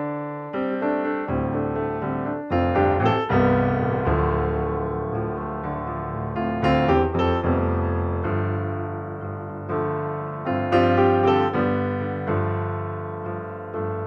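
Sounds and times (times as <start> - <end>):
calm piano chords: 0.0 - 14.0.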